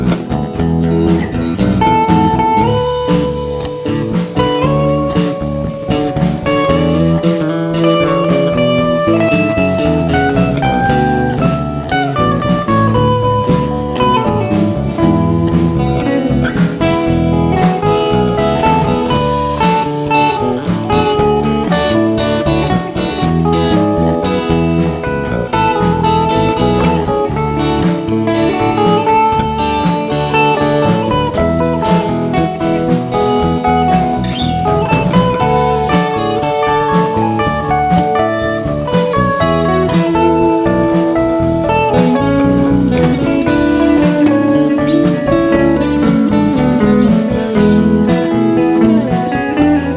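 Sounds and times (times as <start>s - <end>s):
band playing blues-rock: 0.0s - 49.9s
lead guitar solo: 0.0s - 49.9s.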